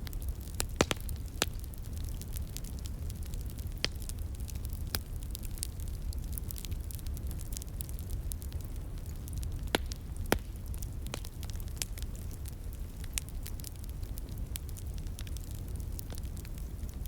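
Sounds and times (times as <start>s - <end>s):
sharp pops of fire: 0.0s - 17.0s
wood fire crackling: 0.0s - 17.0s.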